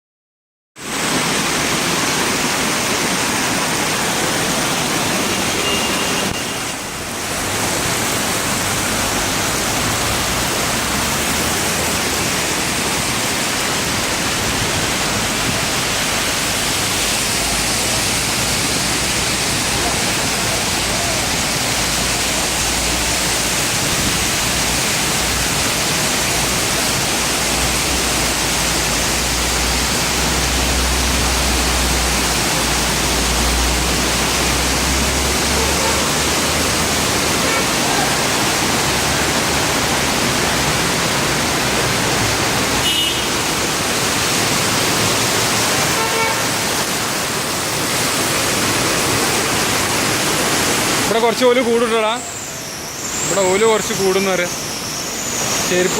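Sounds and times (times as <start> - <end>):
heavy rain pouring: 0.8 - 55.9.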